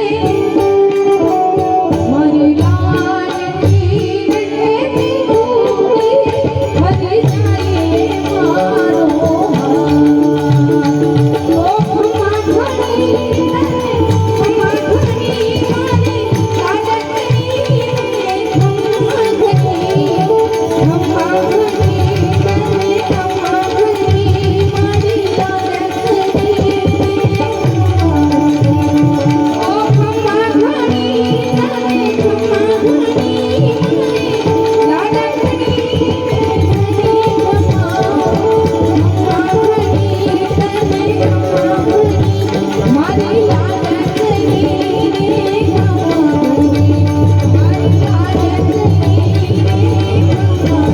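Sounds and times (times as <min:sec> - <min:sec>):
hand drum beat: 0:00.0 - 0:50.9.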